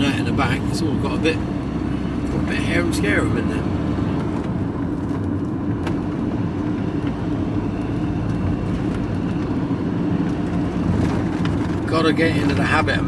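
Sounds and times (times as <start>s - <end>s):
vehicle engine and road drone: 0.0s - 13.0s.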